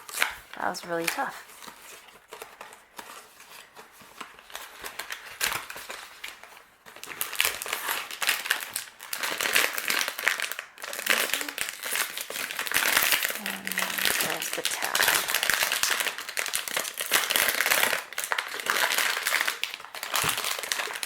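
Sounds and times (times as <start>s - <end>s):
packaging crinkling: 0.0s - 21.0s.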